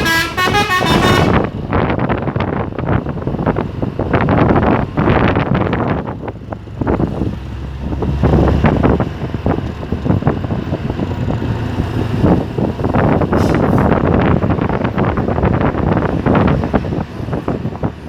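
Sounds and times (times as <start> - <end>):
truck engine and road noise: 0.0 - 18.0
wind buffeting microphone: 0.0 - 18.0.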